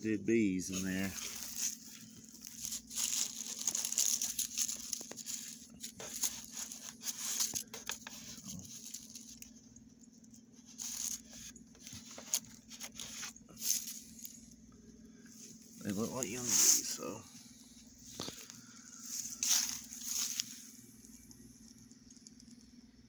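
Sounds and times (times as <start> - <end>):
beehive parts rustling and scraping: 0.0 - 22.7
faint low hum: 0.0 - 23.0.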